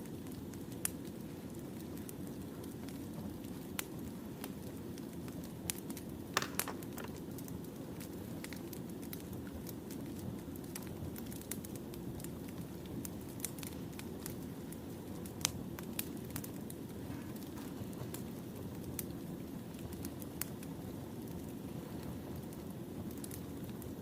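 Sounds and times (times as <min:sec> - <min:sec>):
firewood burning with pops and crackles: 0:00.0 - 0:24.0.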